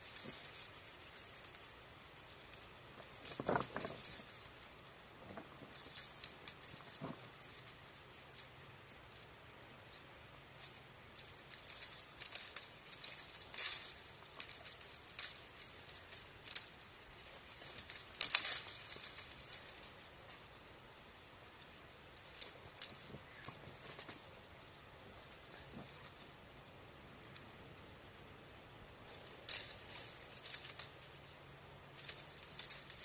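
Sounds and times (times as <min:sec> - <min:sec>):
dry grass and twigs crackling: 0:00.0 - 0:33.0.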